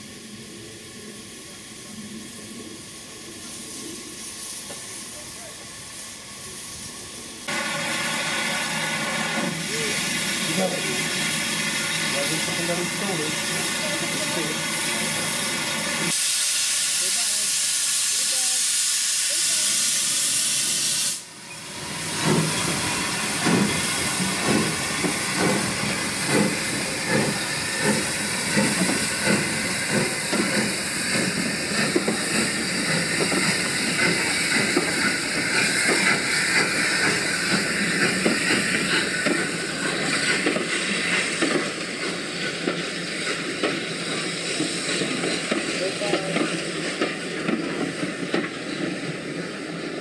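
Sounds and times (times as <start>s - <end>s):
steam locomotive hissing steam: 0.0s - 50.0s.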